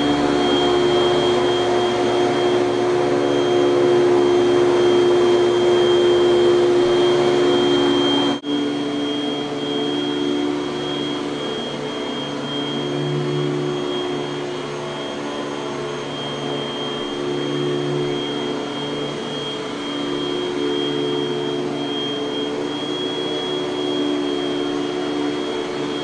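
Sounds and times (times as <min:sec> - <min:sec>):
vacuum cleaner motor whining: 0:00.0 - 0:26.0.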